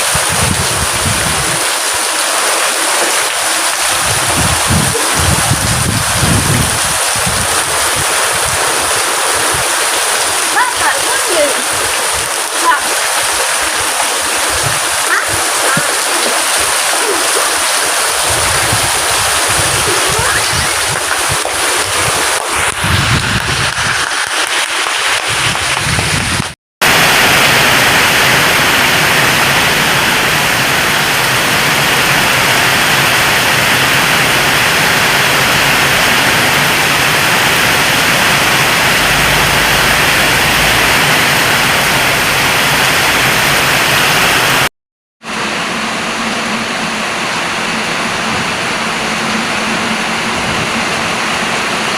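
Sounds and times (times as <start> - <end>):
running water: 0.0 - 44.7
heavy rain: 0.0 - 51.9.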